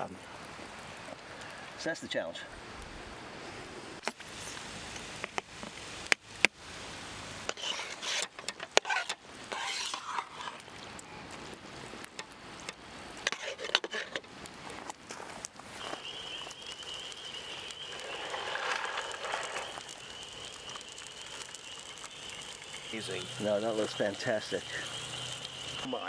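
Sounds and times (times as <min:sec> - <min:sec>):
food sizzling in a pan: 0:04.2 - 0:26.0.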